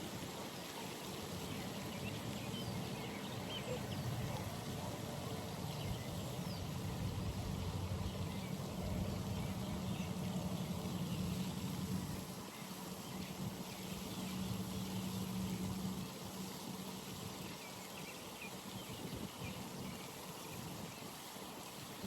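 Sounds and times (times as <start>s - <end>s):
trickling water: 0.0s - 22.0s.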